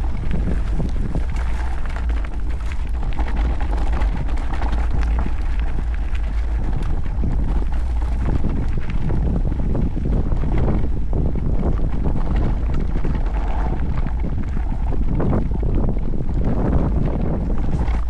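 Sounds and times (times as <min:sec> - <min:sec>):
bike clicks and rattles: 0:00.0 - 0:18.0
bike tyres rolling on gravel: 0:00.0 - 0:18.0
wind buffeting microphone: 0:00.0 - 0:18.0.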